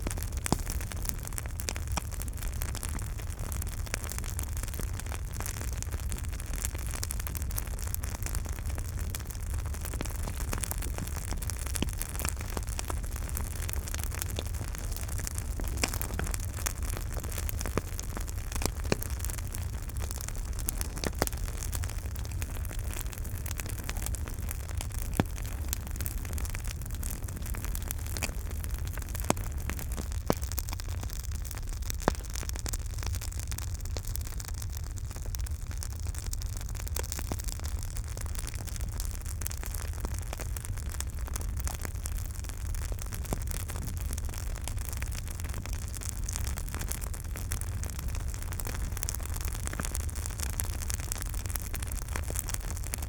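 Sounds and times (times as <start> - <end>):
loud fire pops: 0.0 - 34.8, 35.5 - 53.0
campfire wood crackling: 0.0 - 53.0
low rumble and hiss: 0.0 - 53.0.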